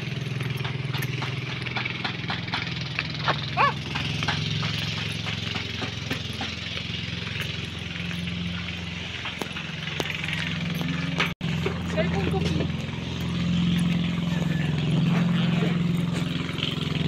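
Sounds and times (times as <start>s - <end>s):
outdoor background noise: 0.0s - 17.0s
small engine humming: 0.0s - 17.0s.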